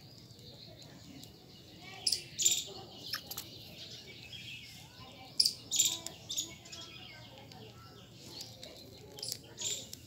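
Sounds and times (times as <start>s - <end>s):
high-pitched chirping calls: 0.2s - 10.0s.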